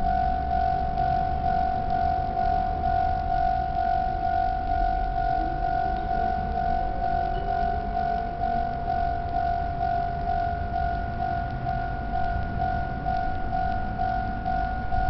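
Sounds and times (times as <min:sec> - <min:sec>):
level crossing bell ringing: 0:00.0 - 0:15.0.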